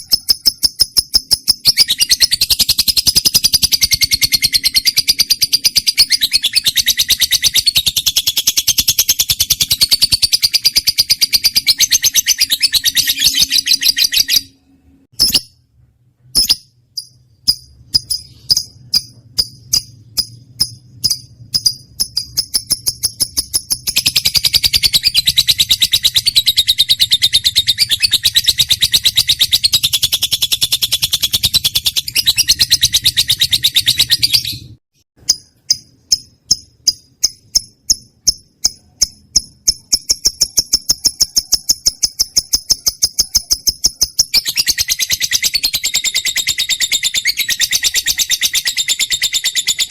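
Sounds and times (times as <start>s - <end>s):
bird chattering trill: 0.0s - 14.6s, 16.4s - 49.9s
bird sharp chirps: 0.0s - 15.6s, 16.2s - 49.9s.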